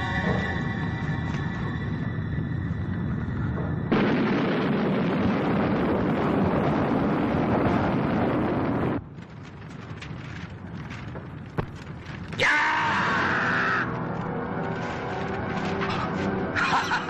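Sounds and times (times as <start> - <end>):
tense film score: 0.0 - 17.0.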